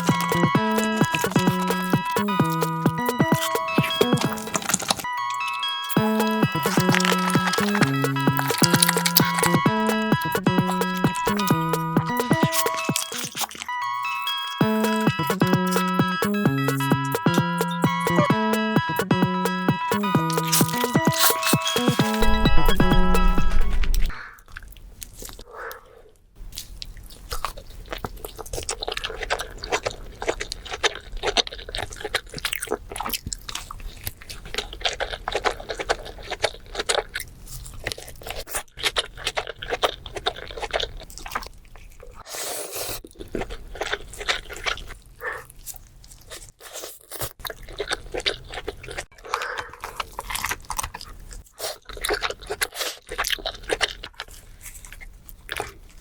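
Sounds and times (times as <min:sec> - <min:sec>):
person chewing and crunching: 0:00.0 - 0:25.8, 0:26.4 - 0:56.0.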